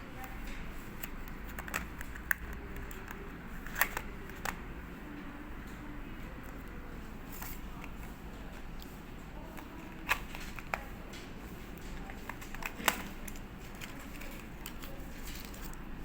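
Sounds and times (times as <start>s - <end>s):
steady low hum: 0.0s - 16.0s
packaging clicks and taps: 0.2s - 4.7s, 6.4s - 15.8s.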